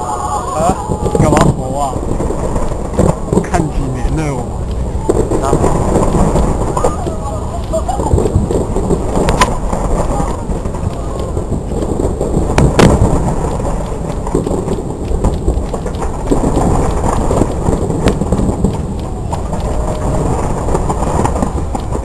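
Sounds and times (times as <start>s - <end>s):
fireworks rumbling: 0.0s - 22.0s
sharp firework cracks: 0.0s - 22.0s.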